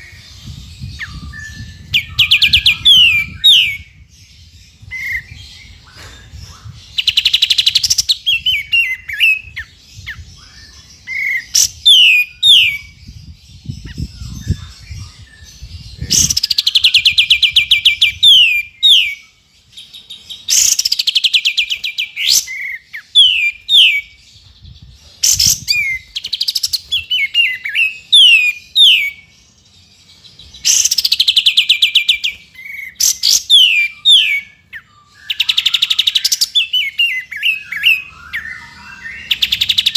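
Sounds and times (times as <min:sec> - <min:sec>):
bulbul singing trills and whistles: 0:00.0 - 0:39.9.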